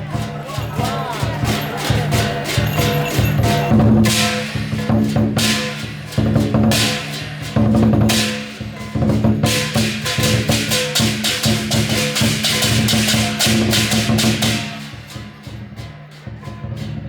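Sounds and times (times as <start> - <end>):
cymbals clashing rapidly: 0.0 - 17.0
large drum beating: 0.0 - 17.0.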